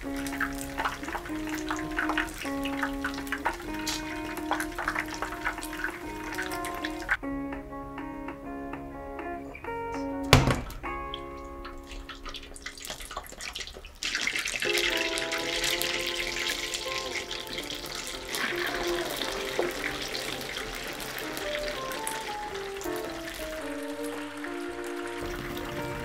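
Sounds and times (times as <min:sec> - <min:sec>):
oil popping: 0:00.0 - 0:07.2, 0:10.3 - 0:26.0
oil sizzling and bubbling: 0:00.0 - 0:07.2, 0:10.3 - 0:26.0
background music: 0:00.0 - 0:12.9, 0:14.6 - 0:26.0.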